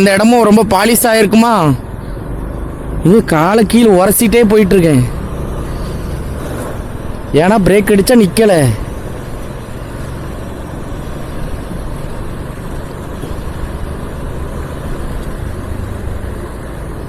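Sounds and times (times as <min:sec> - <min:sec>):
motorcycle engine hum: 0:00.0 - 0:17.0.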